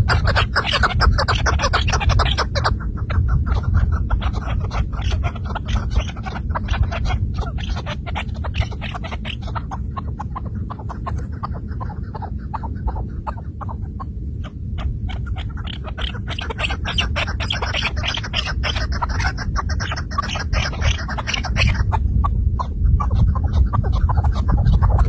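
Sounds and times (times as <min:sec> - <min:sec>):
low steady rumble: 0:00.0 - 0:25.0
partridge calling: 0:00.0 - 0:25.0.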